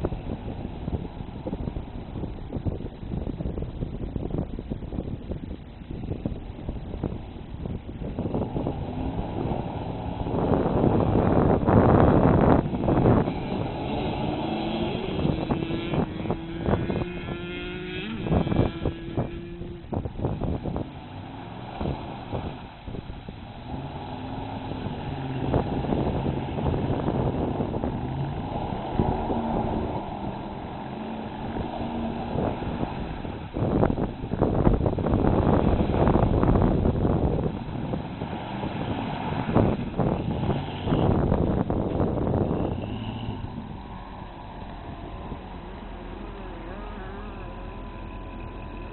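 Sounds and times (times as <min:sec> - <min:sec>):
truck engine running under load: 0:00.0 - 0:48.9.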